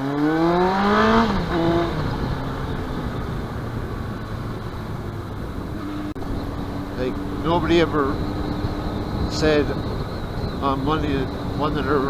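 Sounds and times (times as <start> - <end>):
motorcycle engine accelerating: 0.0 - 12.0
road and wind noise: 0.0 - 12.0.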